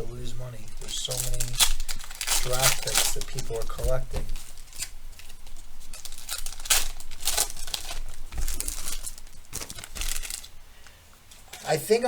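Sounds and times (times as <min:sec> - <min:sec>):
wrappers tearing and crinkling: 0:00.0 - 0:12.0.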